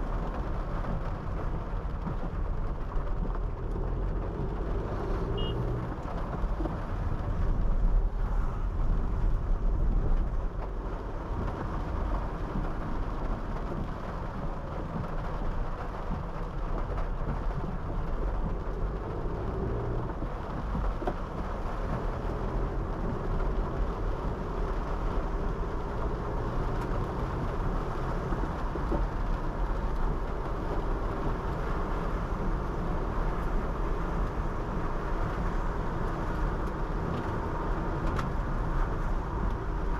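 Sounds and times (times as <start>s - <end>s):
car engine: 0.0s - 39.9s
tyre noise on wet road: 0.0s - 39.9s.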